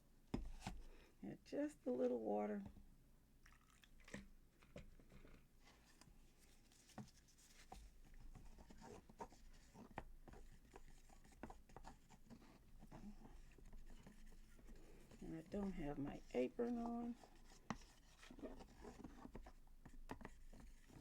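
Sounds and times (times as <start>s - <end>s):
plaster being stirred in a cup: 3.4s - 21.0s.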